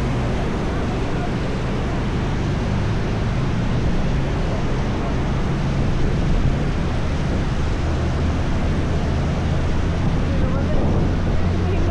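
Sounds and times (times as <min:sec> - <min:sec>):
vehicle rumbling on the move: 0:00.0 - 0:11.9.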